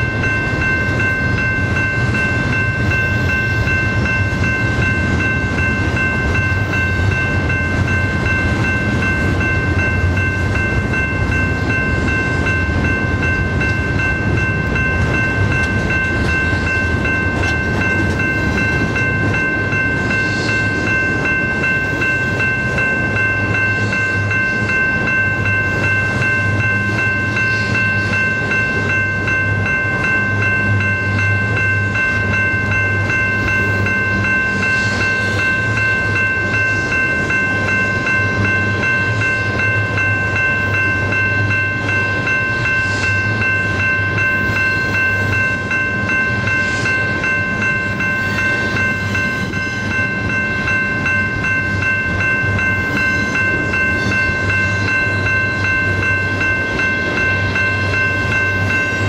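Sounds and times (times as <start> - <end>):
train cars rumbling past: 0.0 - 59.0.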